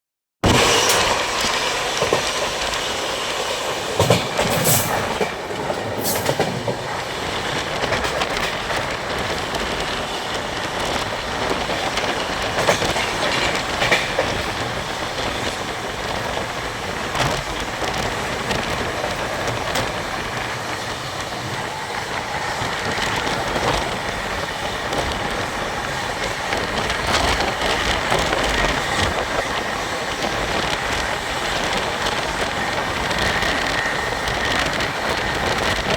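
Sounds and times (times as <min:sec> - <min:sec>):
train wheels rolling on rails: 0:00.4 - 0:35.9.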